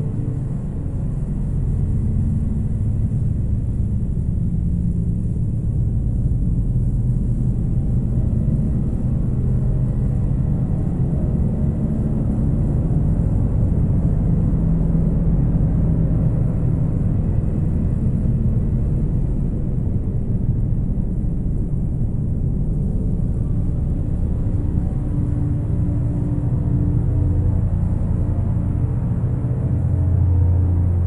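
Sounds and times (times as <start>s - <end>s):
dark ambient drone music: 0.0s - 31.0s.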